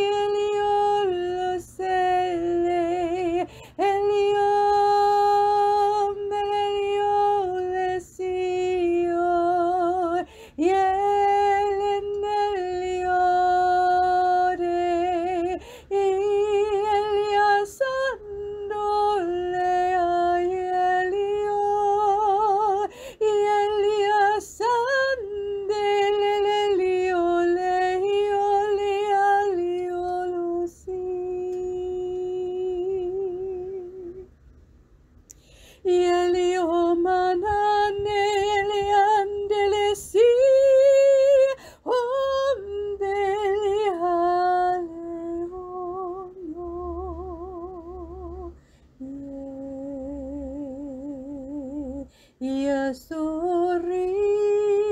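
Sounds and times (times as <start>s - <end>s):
woman singing unaccompanied: 0.0s - 34.3s, 35.6s - 54.9s.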